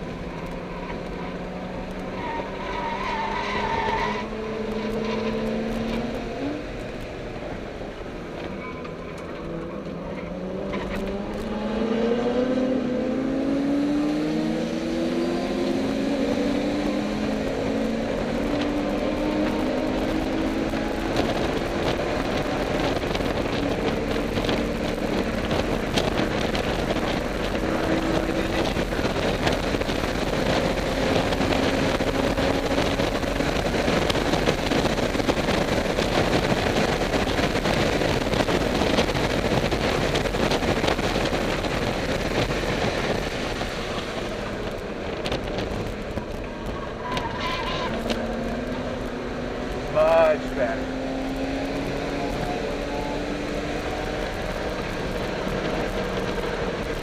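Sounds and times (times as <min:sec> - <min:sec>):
car engine running hard: 0:00.0 - 0:57.0
road noise: 0:00.0 - 0:57.0
wind noise: 0:00.0 - 0:57.0.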